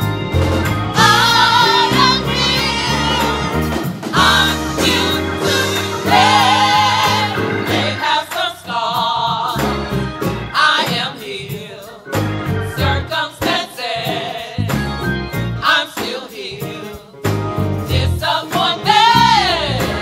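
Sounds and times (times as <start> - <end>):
keyboard: 0.0 - 20.0
women singing gospel: 0.9 - 14.8, 15.5 - 17.2, 17.8 - 20.0.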